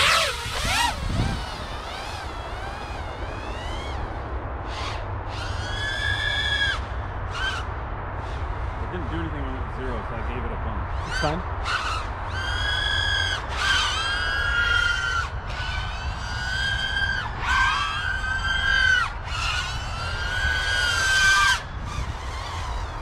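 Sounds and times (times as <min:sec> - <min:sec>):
drone motors whining: 0:00.0 - 0:09.9, 0:10.9 - 0:23.0.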